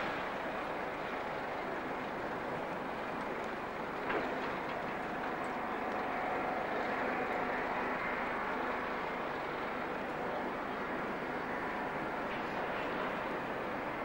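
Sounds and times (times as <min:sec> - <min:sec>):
distant machinery hum: 0:00.0 - 0:14.0
dockside background noise: 0:00.0 - 0:14.0.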